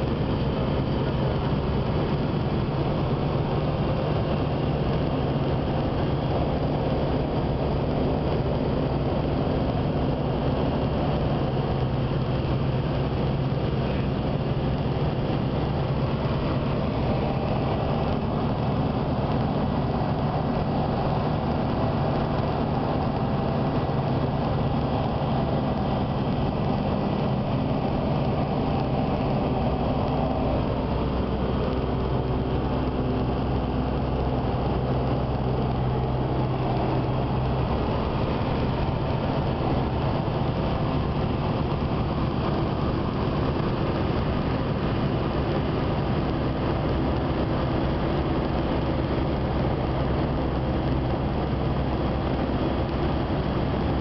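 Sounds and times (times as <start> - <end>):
light aircraft engine droning: 0.0 - 54.0
rush of air noise: 0.0 - 54.0.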